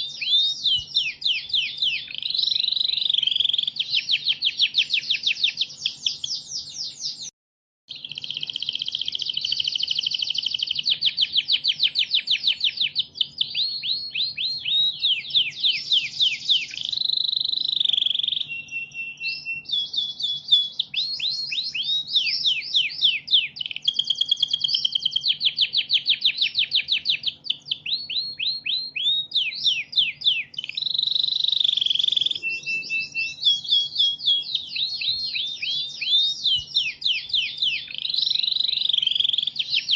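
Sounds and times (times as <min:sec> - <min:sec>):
canary singing trills: 0:00.0 - 0:07.3, 0:07.9 - 0:39.9.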